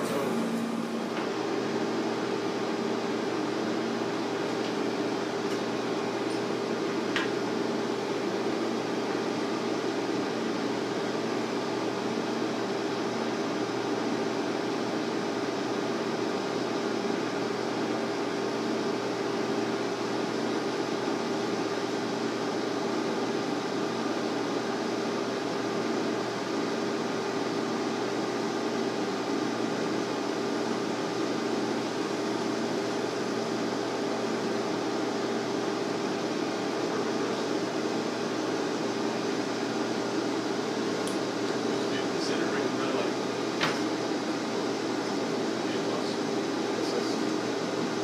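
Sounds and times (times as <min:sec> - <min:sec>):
cooling fans humming: 0:00.0 - 0:48.0.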